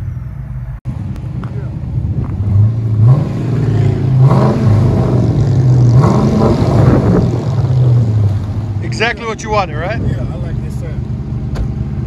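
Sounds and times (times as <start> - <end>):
car engine revving: 0.6 - 12.0.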